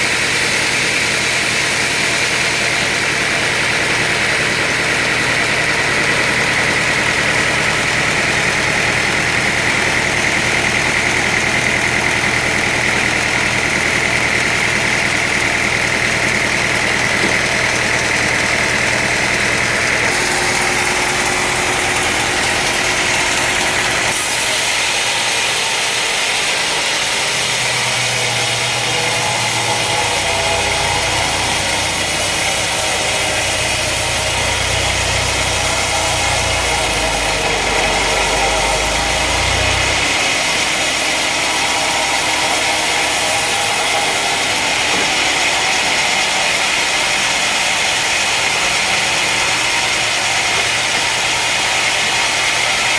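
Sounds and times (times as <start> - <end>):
sawmill machinery whining: 0.0 - 52.9.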